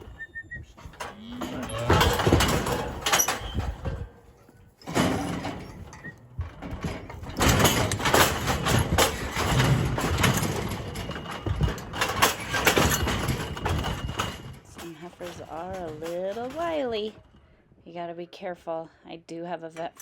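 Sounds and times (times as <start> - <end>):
metal gates rattling and clanging: 0.0 - 17.4.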